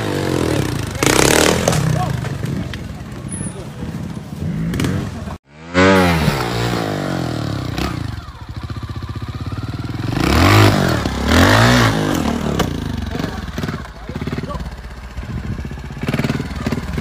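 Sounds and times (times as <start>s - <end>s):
trials motorcycle engine revving: 0.0s - 17.0s.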